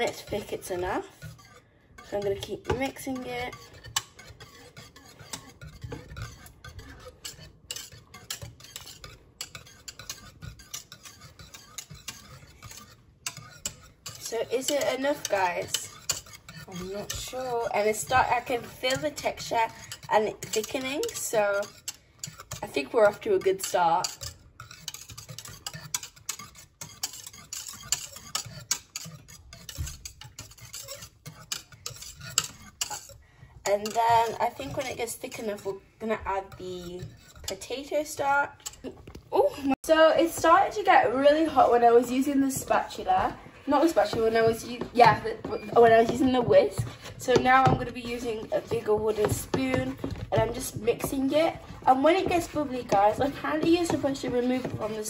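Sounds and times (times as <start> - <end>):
whisk scraping metal pot: 0.0 - 55.0.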